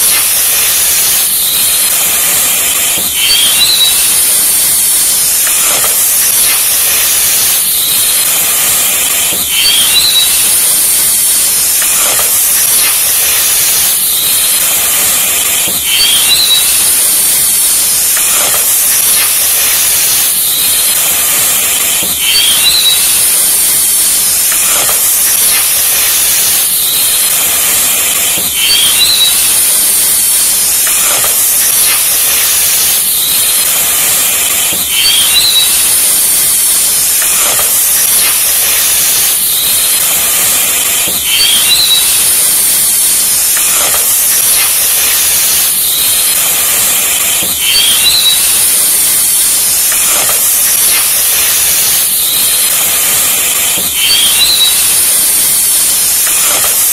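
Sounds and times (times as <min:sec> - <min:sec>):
faint high rising chirp: 0:00.0 - 0:55.4
steady hissing: 0:00.0 - 0:56.9.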